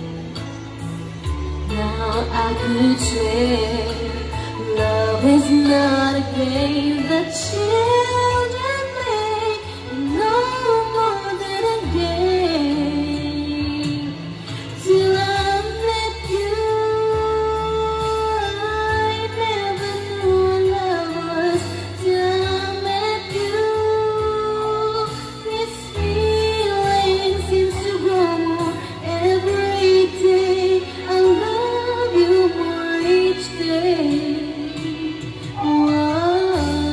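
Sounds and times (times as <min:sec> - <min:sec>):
instrumental backing track: 0:00.0 - 0:36.9
woman singing slow song: 0:00.0 - 0:36.9.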